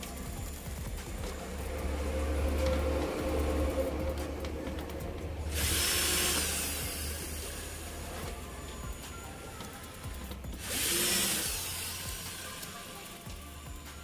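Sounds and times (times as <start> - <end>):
power drill humming: 0.0 - 14.0.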